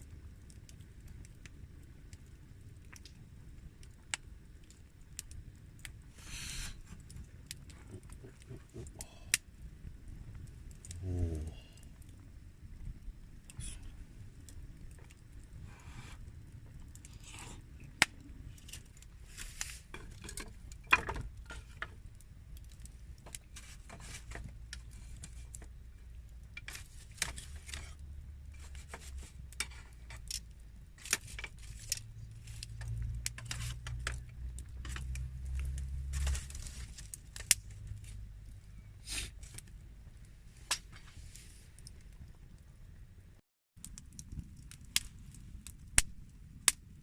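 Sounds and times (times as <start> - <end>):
low steady rumble: 0.0 - 47.0.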